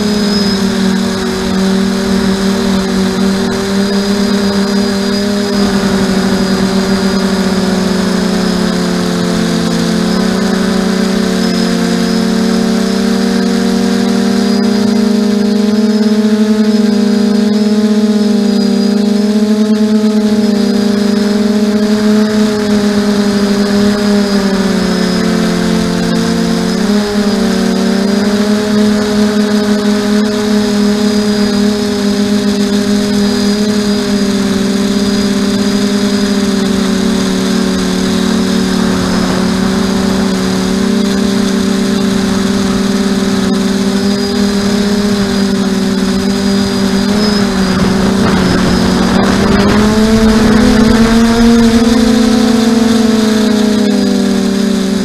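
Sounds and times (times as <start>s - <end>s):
drone motors and propellers humming: 0.0s - 55.0s.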